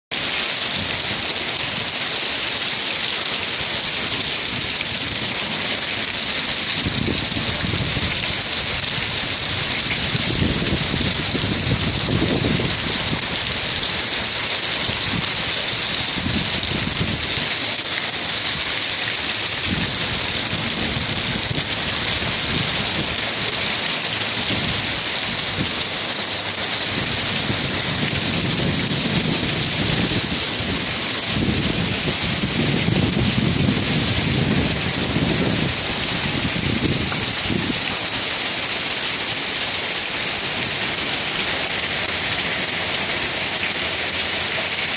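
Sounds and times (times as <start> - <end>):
heavy rain pouring: 0.1 - 44.9.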